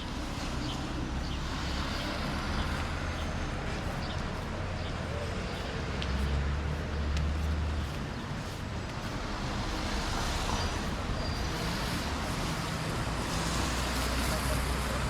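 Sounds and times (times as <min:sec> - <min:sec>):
passing road traffic: 0:00.0 - 0:15.0
vehicle engine rumble: 0:00.0 - 0:15.0.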